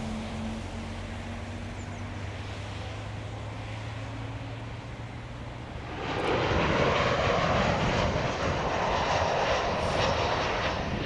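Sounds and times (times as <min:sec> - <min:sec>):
airliner engines passing: 0:00.0 - 0:11.0.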